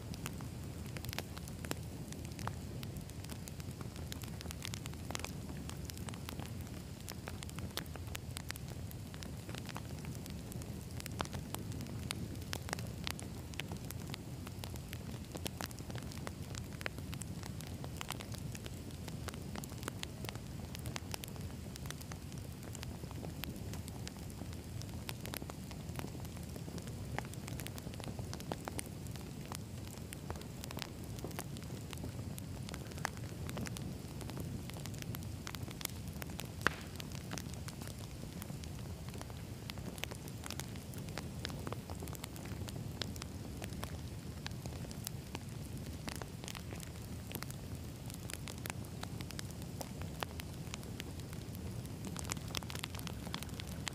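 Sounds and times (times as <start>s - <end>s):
campfire burning: 0.0s - 53.9s
crackles and pops of burning logs: 0.0s - 53.9s.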